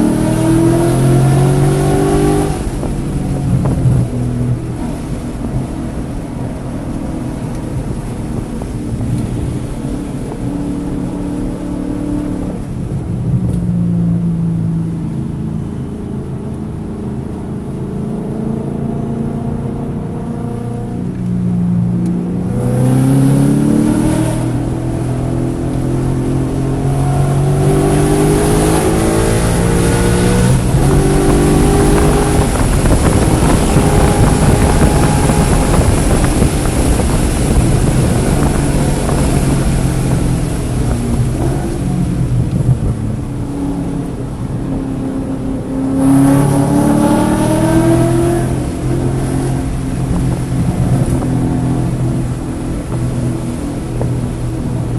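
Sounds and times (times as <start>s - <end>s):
wind noise: 0.0s - 18.2s, 19.3s - 54.9s
misfiring car engine accelerating: 0.0s - 54.9s.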